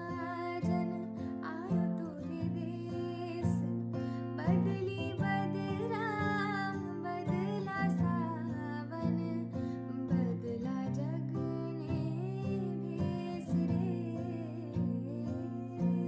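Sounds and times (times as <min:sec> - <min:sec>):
acoustic guitar music with bass: 0:00.0 - 0:16.0.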